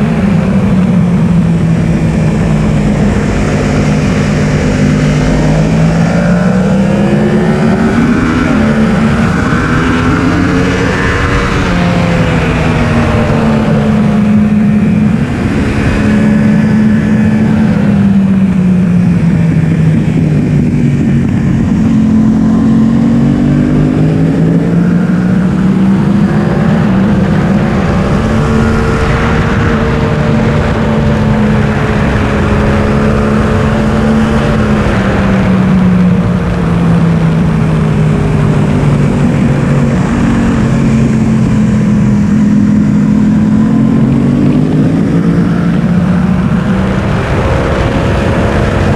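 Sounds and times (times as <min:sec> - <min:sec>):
motorcycle engine revving: 0:00.0 - 0:48.9
wind rush: 0:00.0 - 0:48.9.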